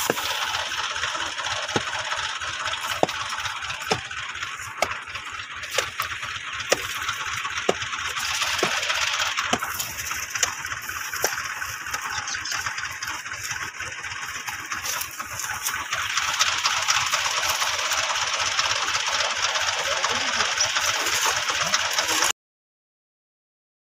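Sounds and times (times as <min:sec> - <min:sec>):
low engine throb: 0:00.0 - 0:22.3
thresher mechanical rushing: 0:00.0 - 0:22.3.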